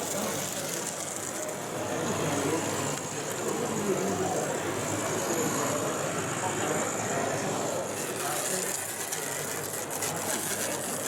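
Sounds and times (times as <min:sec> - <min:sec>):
chatter of many people: 0:00.0 - 0:11.0.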